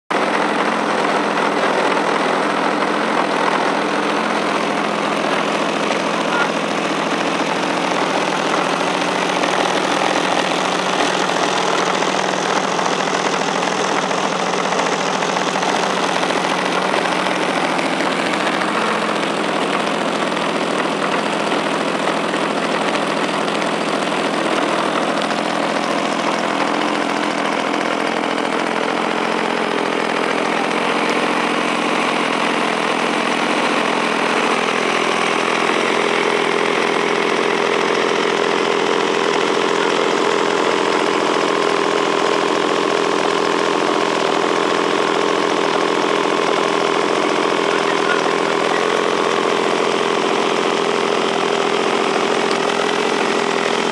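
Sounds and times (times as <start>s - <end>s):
two-stroke engine with propeller: 0.1s - 53.9s.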